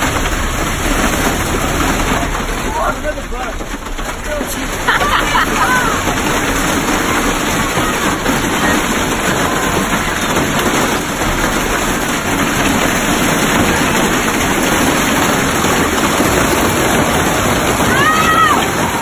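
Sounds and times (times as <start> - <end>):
hail pelting a bus roof: 0.0 - 19.0.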